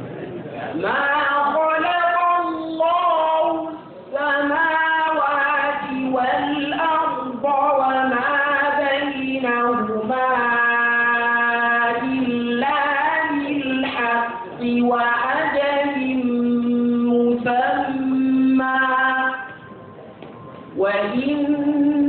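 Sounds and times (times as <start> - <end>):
high voice chanting recitation: 0.5 - 19.7, 20.8 - 22.0.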